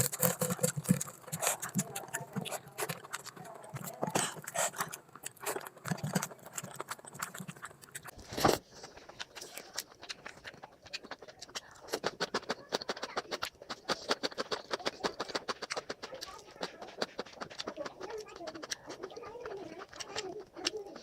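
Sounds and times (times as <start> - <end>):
mouth clicks: 0.0 - 8.2, 9.0 - 21.0
chewing: 0.0 - 21.0.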